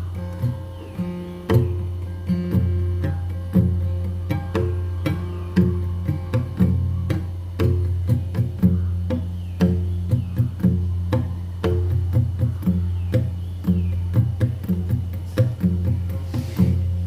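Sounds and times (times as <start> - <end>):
plucked strings: 0.0 - 17.0
regular drum beat: 0.0 - 17.0.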